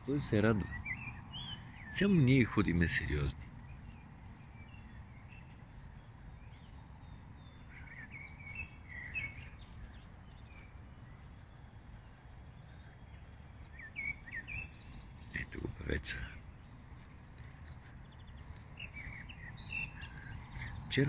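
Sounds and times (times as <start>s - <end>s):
faint bird chirps: 0.2s - 21.0s.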